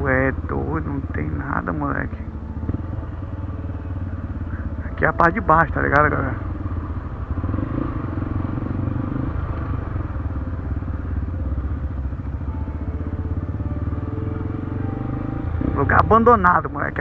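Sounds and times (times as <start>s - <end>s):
motorcycle engines idling: 0.0s - 17.0s.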